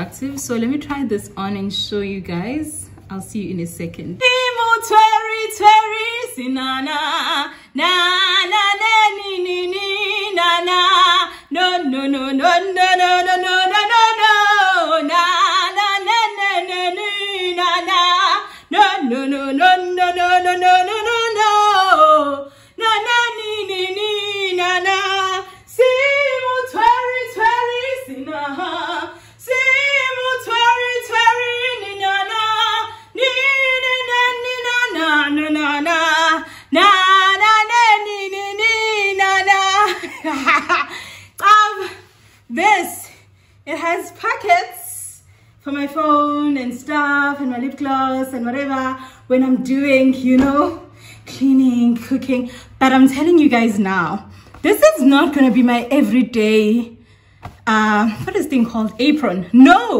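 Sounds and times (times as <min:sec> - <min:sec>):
woman singing unaccompanied: 0:00.0 - 0:56.9.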